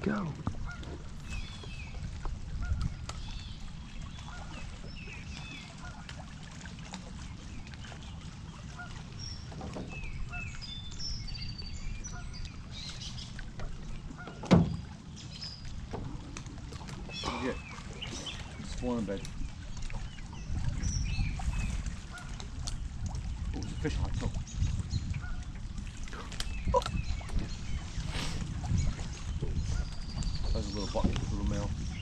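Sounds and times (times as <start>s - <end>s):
wind rumble on microphone: 0.0s - 32.0s
birds chirping: 0.1s - 6.1s, 7.0s - 32.0s.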